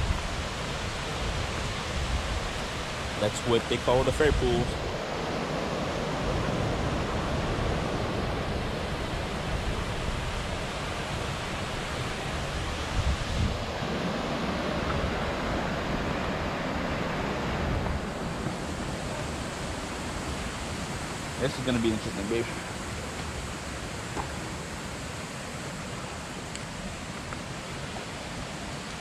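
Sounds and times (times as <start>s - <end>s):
waterfall rushing into pool: 0.0s - 29.0s
wind rumbling on microphone: 0.0s - 29.0s.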